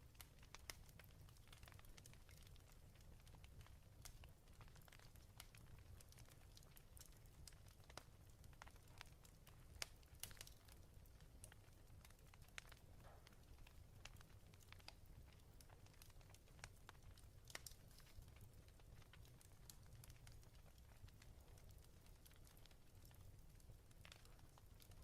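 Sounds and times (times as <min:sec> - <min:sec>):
log fire crackling: 0:00.0 - 0:25.0.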